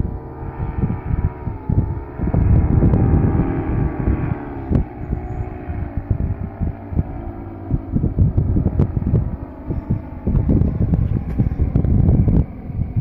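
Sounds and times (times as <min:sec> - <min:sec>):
paramotor engine droning: 0:00.0 - 0:13.0
wind buffeting microphone: 0:00.0 - 0:13.0.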